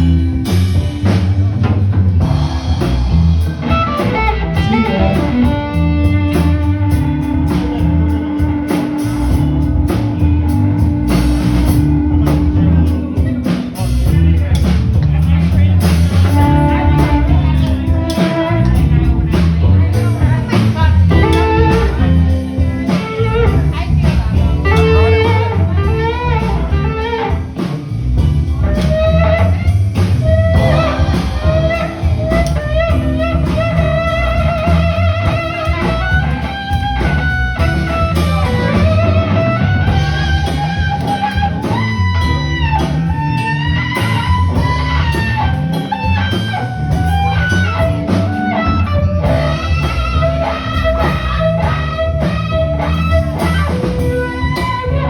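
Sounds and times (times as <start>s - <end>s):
drums: 0.0s - 55.0s
electric guitar lead: 0.0s - 55.0s.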